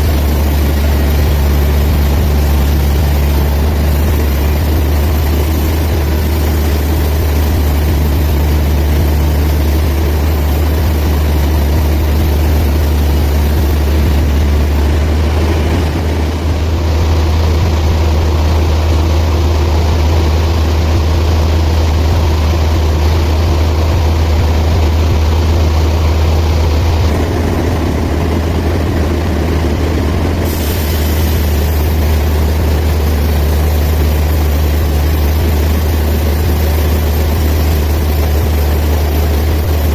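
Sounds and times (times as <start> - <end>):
band sawmill running: 0.0 - 39.9
rushing noise: 0.0 - 39.9.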